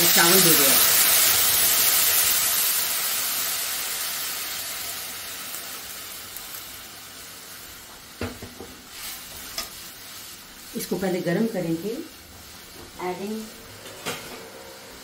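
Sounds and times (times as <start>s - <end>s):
water sizzling in hot oil: 0.0s - 15.0s.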